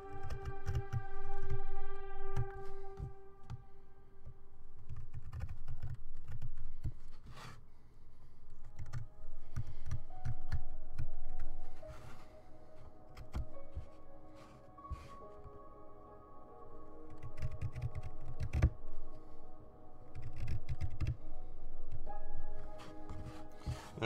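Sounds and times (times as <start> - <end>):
soft background music: 0.0 - 24.0.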